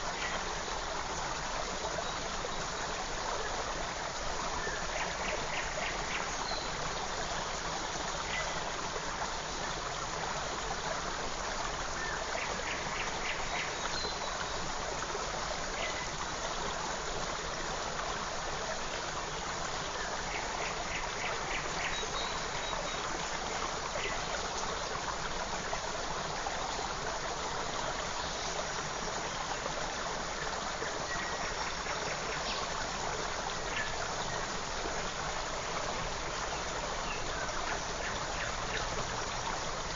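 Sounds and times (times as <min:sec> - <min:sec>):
creek rushing water: 0:00.0 - 0:39.9.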